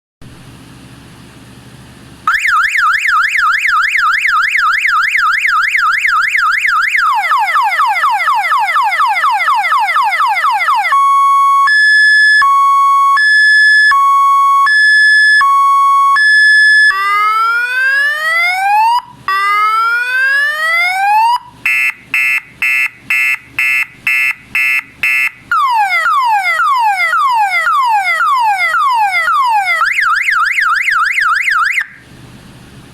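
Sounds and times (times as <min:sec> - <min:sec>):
electronic siren horn: 0:02.3 - 0:32.0.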